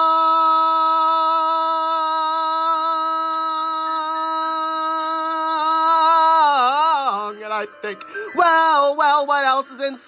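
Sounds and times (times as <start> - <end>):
man singing long note: 0.0 - 9.8.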